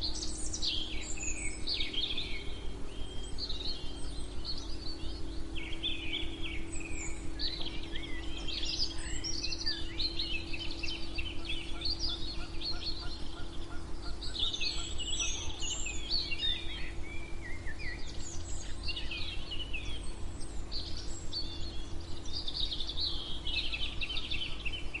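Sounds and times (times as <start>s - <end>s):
quick repeated lower bird notes: 0.0s - 25.0s
songbirds chirping and trilling: 0.0s - 25.0s
white noise with low hum: 0.0s - 25.0s.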